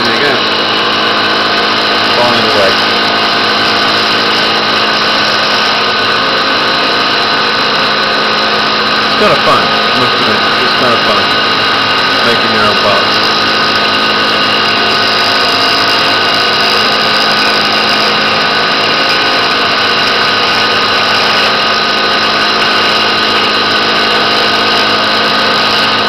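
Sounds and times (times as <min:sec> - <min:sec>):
milling machine hum and whine: 0:00.0 - 0:26.0.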